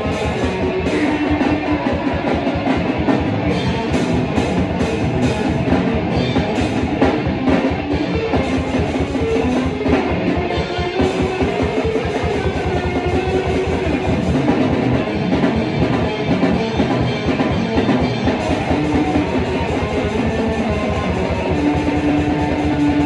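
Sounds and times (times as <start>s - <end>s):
heavy metal music: 0.0s - 23.0s.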